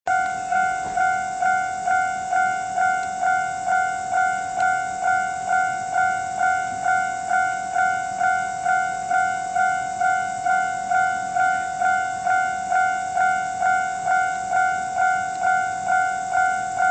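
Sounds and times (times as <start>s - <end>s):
level crossing bell ringing: 0.1s - 16.9s.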